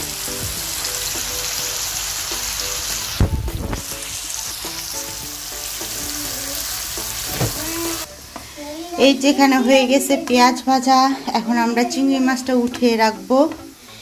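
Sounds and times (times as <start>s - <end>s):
prawns and onions sizzling in oil: 0.0s - 14.0s.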